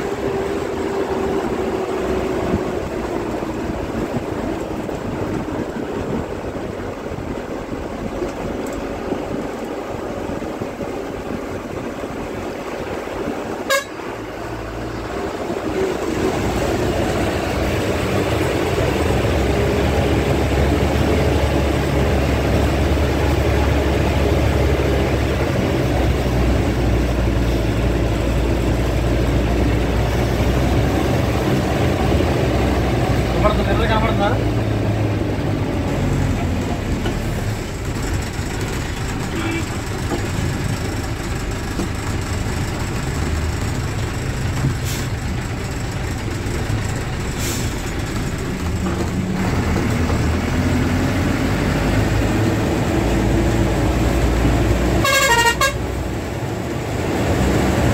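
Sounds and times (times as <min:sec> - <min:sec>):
bus engine and road noise: 0:00.0 - 0:57.9.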